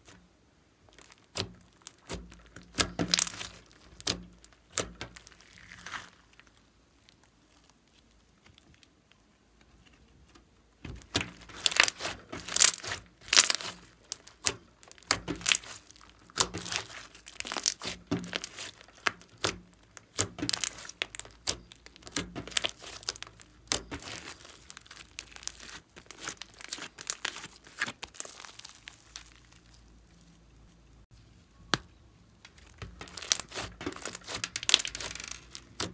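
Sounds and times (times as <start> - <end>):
slime crackling and popping: 0.0 - 9.2, 10.8 - 31.0, 31.7 - 35.9.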